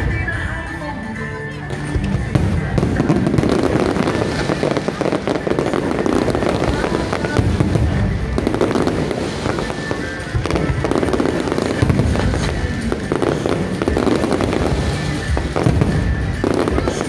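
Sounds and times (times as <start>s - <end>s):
fireworks crackling: 1.5s - 17.0s
fireworks bursting: 1.7s - 17.0s.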